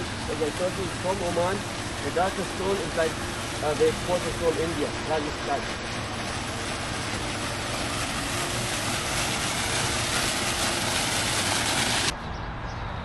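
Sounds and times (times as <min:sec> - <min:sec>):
steady rushing noise: 0:00.0 - 0:12.2.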